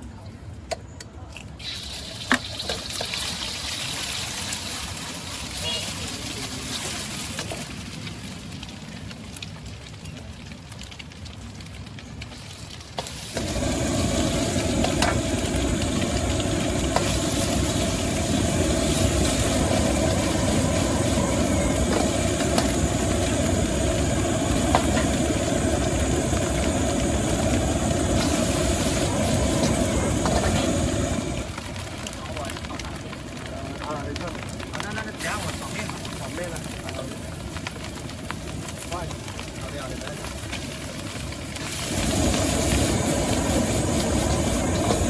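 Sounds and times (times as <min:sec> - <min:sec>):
gas burner roaring: 0:00.7 - 0:45.0
food sizzling in a wok: 0:01.6 - 0:08.7, 0:12.3 - 0:32.1, 0:34.9 - 0:45.0.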